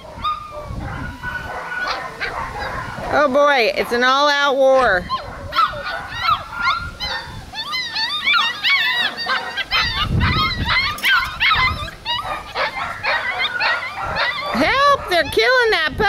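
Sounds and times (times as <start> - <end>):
puppies barking and yipping: 0.0 - 16.0.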